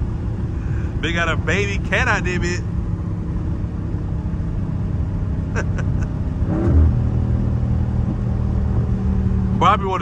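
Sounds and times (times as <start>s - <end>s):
car engine drone: 0.0s - 10.0s
road noise: 0.0s - 10.0s.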